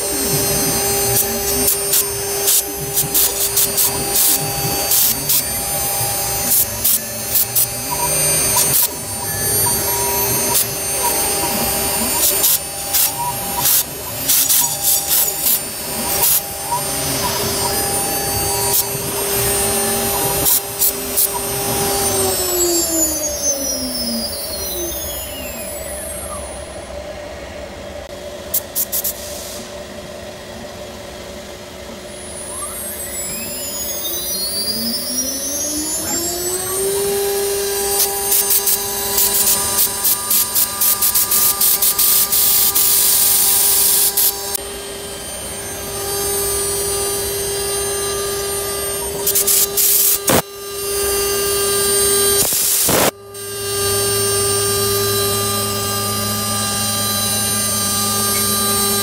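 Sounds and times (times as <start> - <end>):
router spindle whining: 0.0 - 29.0, 29.7 - 59.0
steady machine hum: 0.0 - 59.0.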